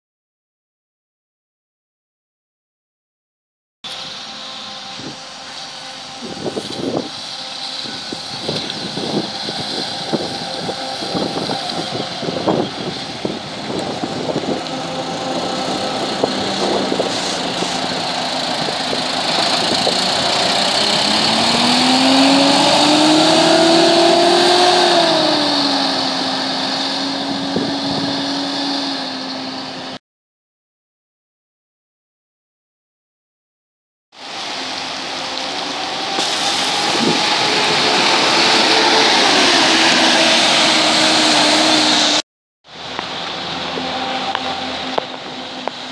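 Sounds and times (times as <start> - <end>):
bus diesel engine accelerating: 3.9 - 30.0, 34.2 - 45.9.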